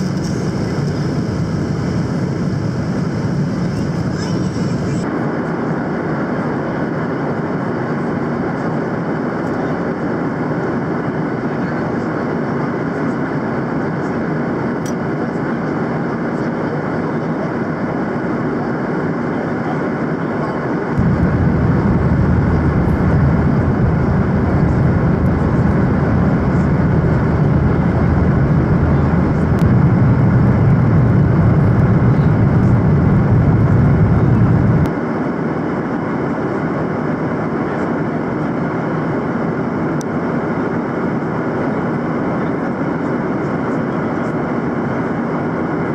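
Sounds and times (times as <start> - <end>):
jet cabin rumble: 0.0 - 45.9.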